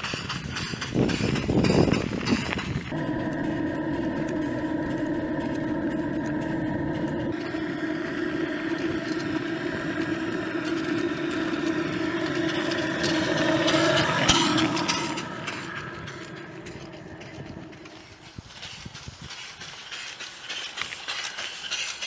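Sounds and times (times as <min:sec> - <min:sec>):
engine idling: 0:00.0 - 0:19.3.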